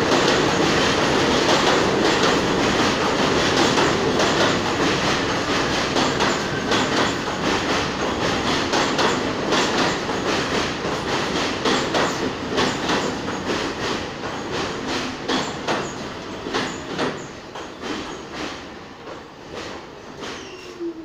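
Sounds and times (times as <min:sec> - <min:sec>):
train wheels clicking over rail joints: 0:00.0 - 0:20.7
train rumble: 0:00.0 - 0:21.0.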